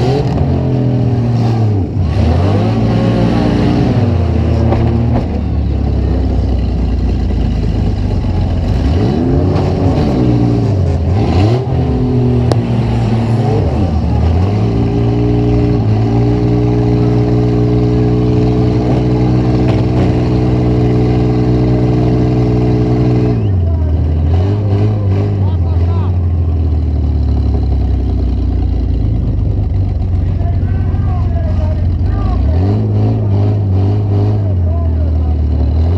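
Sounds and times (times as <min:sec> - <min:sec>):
car engine revving: 0:00.0 - 0:35.9.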